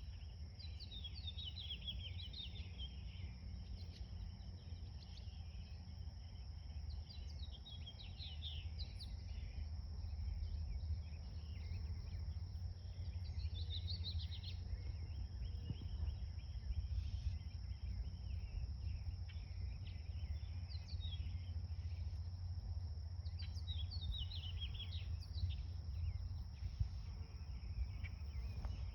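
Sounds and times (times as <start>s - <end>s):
low steady rumble: 0.0s - 28.9s
songbirds chirping: 0.0s - 28.9s.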